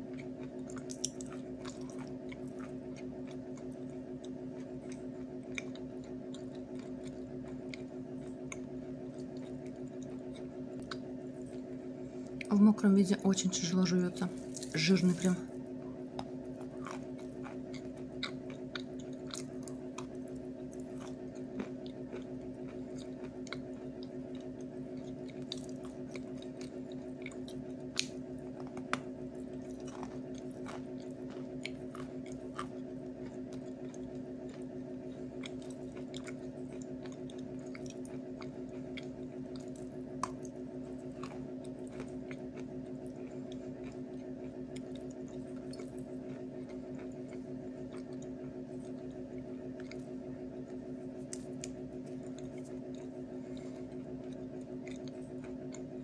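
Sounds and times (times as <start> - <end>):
chalk crunching while chewed: 0.0 - 12.5, 14.3 - 56.0
steady low hum: 0.0 - 56.0.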